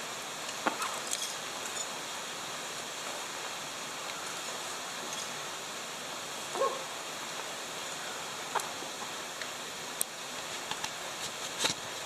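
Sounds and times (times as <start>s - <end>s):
outdoor ambience hiss: 0.0s - 12.0s.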